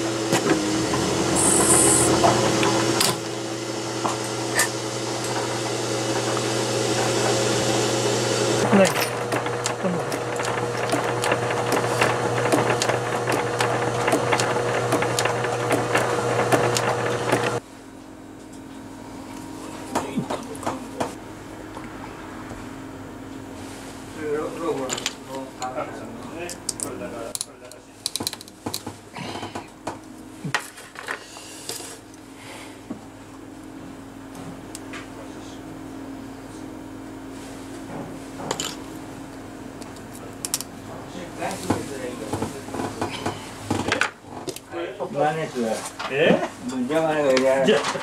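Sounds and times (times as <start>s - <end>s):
workshop hum with thin tone: 0.0s - 48.0s.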